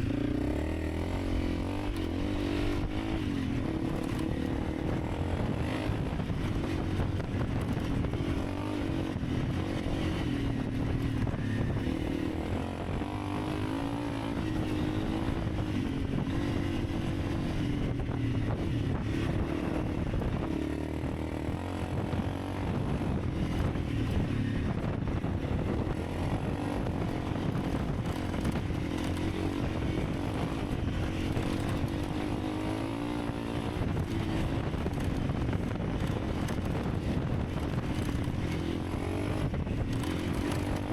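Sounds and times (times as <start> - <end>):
motorcycle engine running: 0.0 - 40.9
steady rushing noise: 0.0 - 40.9.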